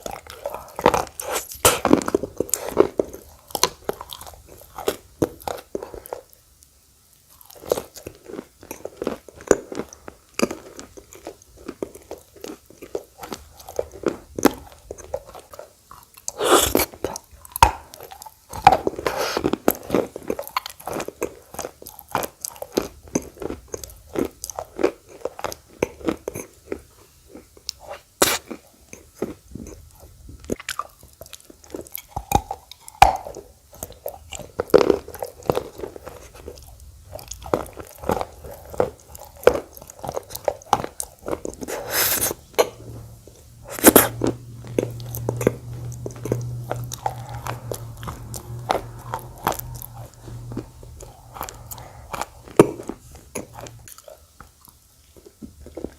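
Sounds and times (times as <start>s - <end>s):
person chewing crunchy clay: 0.0s - 6.6s, 7.2s - 55.9s
faint low hum: 0.0s - 55.9s.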